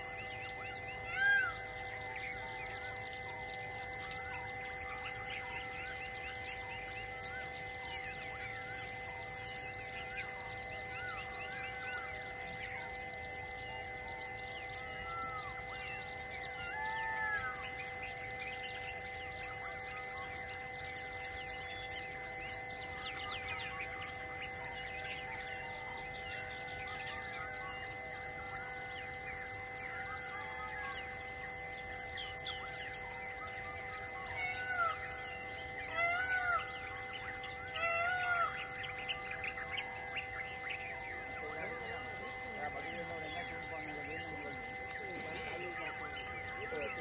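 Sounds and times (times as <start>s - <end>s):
forest birds chirping: 0.0s - 47.0s
steady drone: 0.0s - 47.0s.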